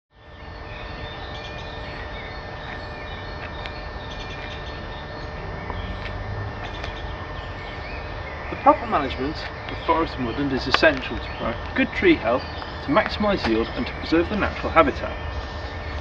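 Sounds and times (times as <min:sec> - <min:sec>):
faint constant hum: 0:00.2 - 0:16.0
steady low rumble: 0:00.4 - 0:16.0.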